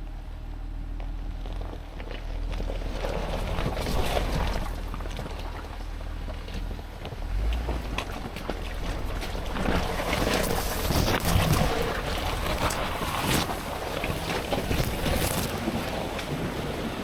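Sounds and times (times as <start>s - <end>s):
vehicle engine low rumble: 0.0s - 17.0s
wind buffeting microphone: 3.2s - 17.0s.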